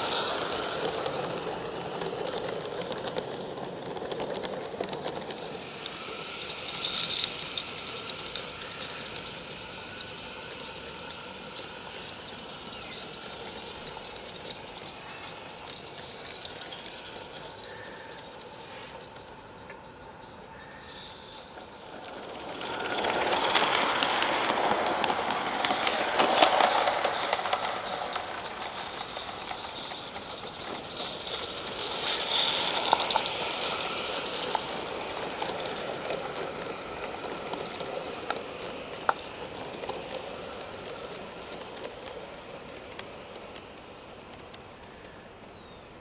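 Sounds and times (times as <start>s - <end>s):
steam hissing: 0.0s - 46.0s
train wheels rattling on rails: 0.0s - 46.0s.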